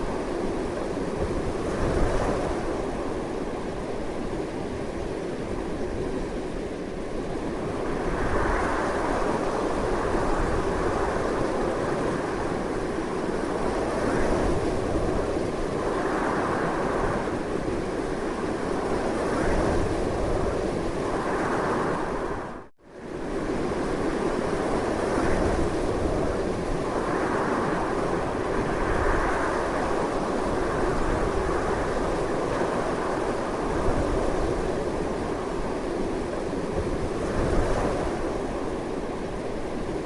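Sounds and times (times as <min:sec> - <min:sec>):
strong gusting wind: 0:00.0 - 0:40.0.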